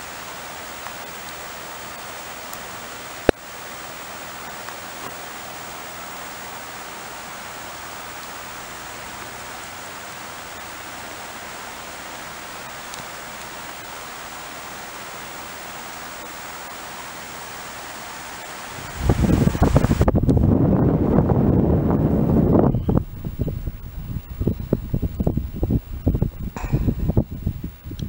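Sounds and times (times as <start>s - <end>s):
water rushing: 0.0s - 22.6s, 26.4s - 27.6s.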